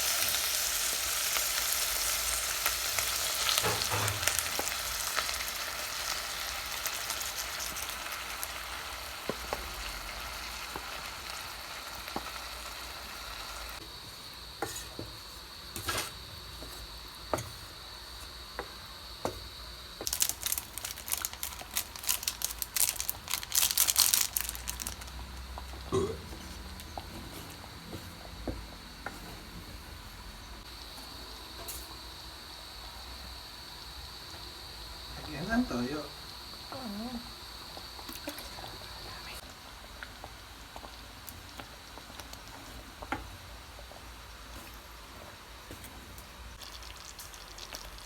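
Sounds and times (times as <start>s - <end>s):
food sizzling in a pot: 0.0s - 48.0s.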